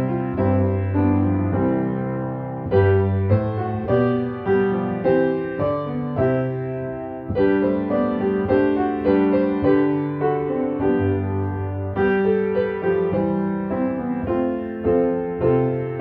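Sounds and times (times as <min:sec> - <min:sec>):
slow gentle solo piano: 0:00.0 - 0:16.0.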